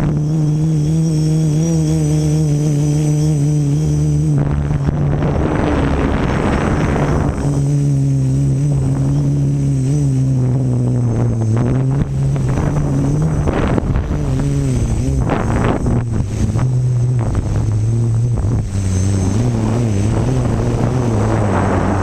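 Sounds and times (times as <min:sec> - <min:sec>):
drone propellers humming: 0:00.0 - 0:22.0
wind buffeting microphone: 0:00.0 - 0:22.0.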